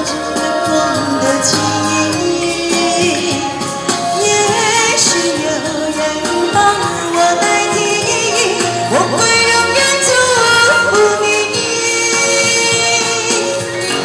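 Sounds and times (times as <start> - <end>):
backing track over loudspeaker: 0.0 - 14.0
woman singing into microphone: 0.0 - 14.0.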